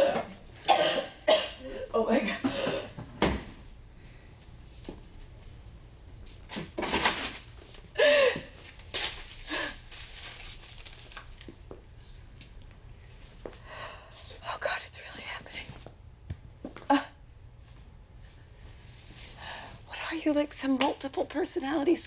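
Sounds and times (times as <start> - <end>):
low steady room hum: 0.0 - 22.0.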